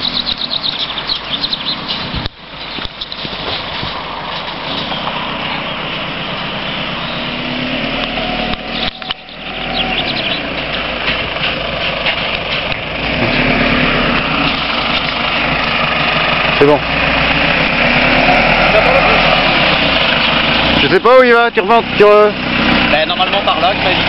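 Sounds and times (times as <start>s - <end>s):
car engine running at low speed: 0.0s - 24.0s.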